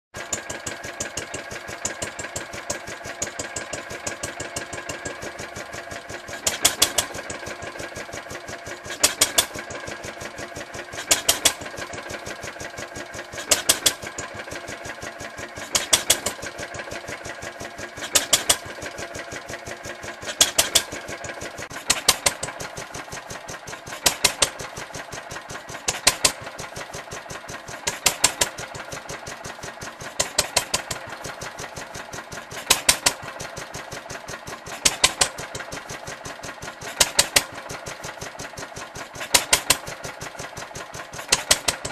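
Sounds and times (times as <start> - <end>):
stationary engine clattering: 0.2 - 41.9.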